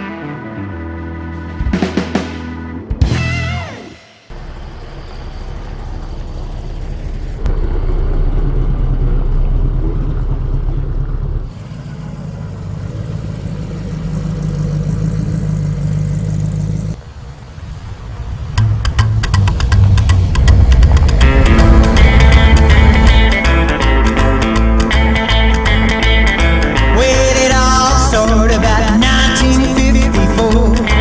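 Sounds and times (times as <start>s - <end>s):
hot rod engines rumbling: 0.0s - 31.0s.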